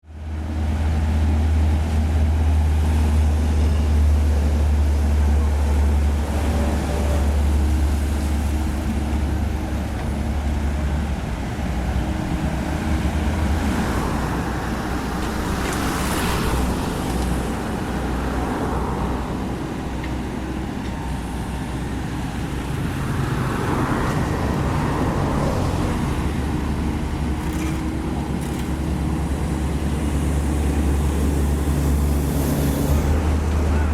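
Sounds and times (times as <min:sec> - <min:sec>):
excavator diesel engine droning: 0:00.2 - 0:33.9.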